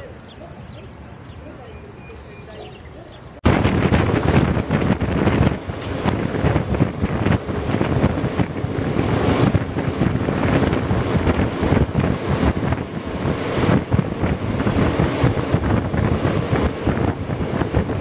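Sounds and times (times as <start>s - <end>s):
train running noise: 0.0s - 18.0s
wind buffeting microphone: 0.0s - 18.0s.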